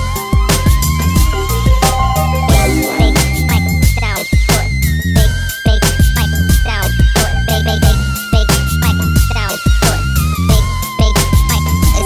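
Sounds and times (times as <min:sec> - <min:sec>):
hip hop music with heavy bass: 0:00.0 - 0:12.0.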